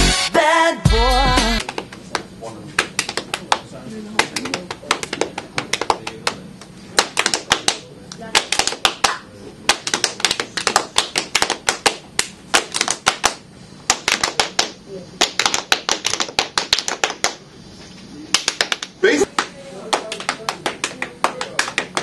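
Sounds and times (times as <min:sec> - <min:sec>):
people clapping and slapping: 0:01.4 - 0:17.4, 0:18.3 - 0:22.0.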